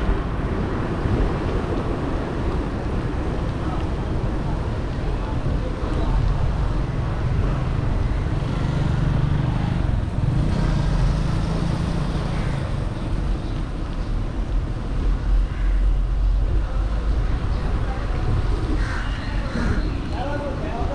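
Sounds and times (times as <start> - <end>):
bus engine rumbling: 0.0 - 20.9
tyre noise on wet road: 0.0 - 20.9.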